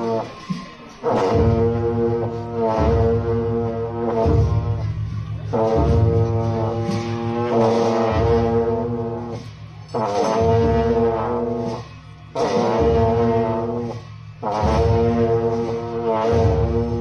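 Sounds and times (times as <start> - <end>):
higher held horn line: 0.0 - 17.0.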